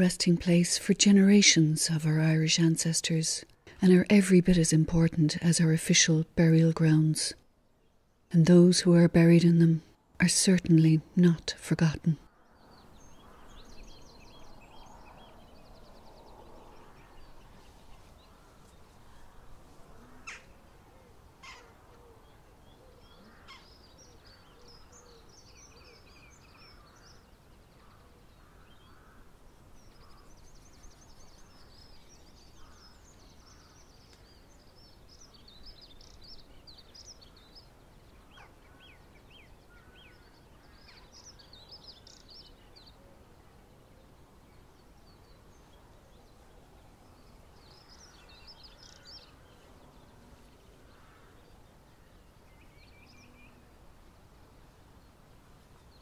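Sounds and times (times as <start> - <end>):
background hiss: 0.0 - 56.0
small birds chirping: 0.0 - 56.0.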